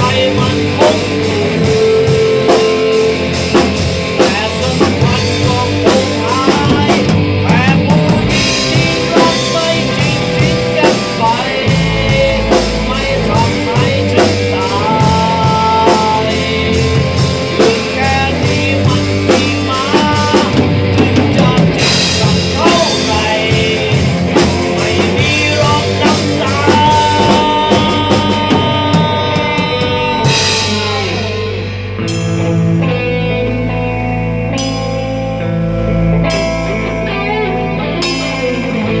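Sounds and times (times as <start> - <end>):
man singing into a microphone: 0.0 - 31.8
drum kit: 0.0 - 39.0
electric guitar: 0.0 - 39.0.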